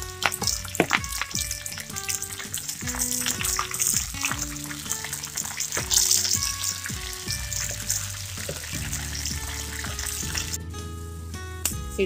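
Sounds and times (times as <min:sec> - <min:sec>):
food sizzling in hot oil: 0:00.0 - 0:10.6
light background music: 0:00.0 - 0:12.0.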